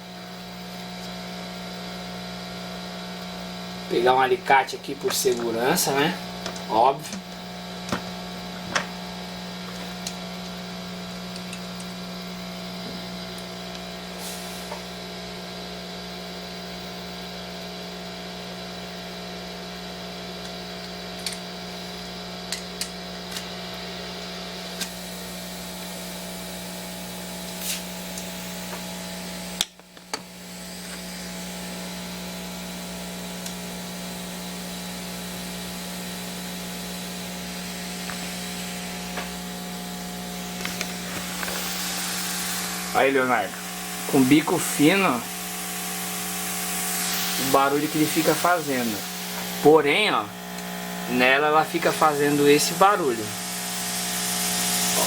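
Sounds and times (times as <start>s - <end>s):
air pump humming: 0.0s - 55.0s.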